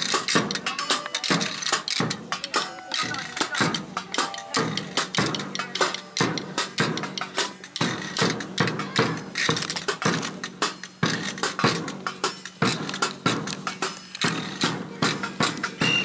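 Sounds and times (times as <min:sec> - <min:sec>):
drums and hand percussion: 0:00.0 - 0:16.0.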